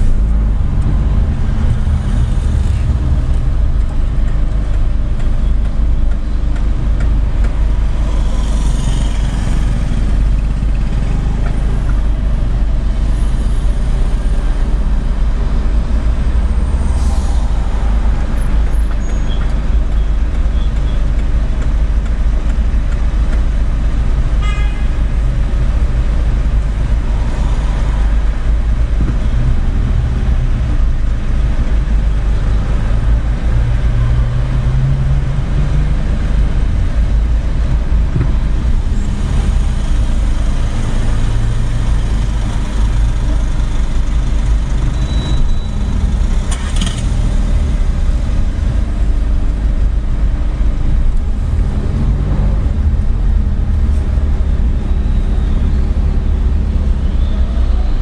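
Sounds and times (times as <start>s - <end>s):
car rumbling in traffic: 0.0s - 58.0s.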